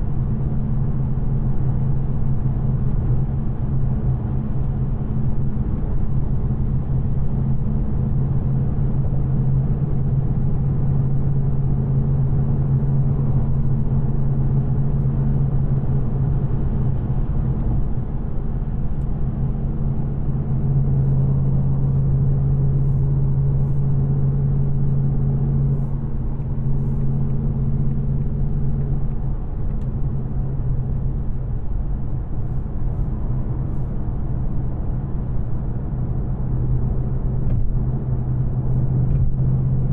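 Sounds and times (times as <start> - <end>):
car engine droning: 0.0 - 39.9
road rumble: 0.0 - 39.9.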